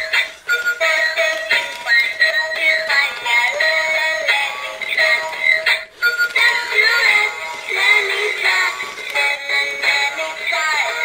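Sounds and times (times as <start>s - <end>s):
toy playing children's song: 0.0s - 11.0s.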